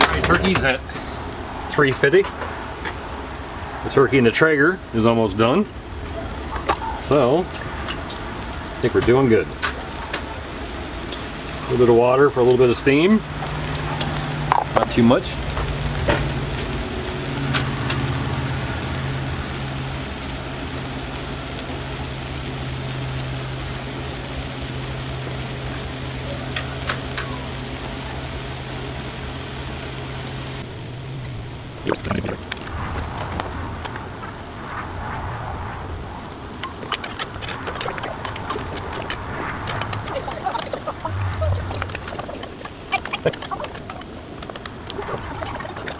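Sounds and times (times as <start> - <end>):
water sizzling on hot griddle: 0.0 - 45.9
low hum: 5.5 - 45.9.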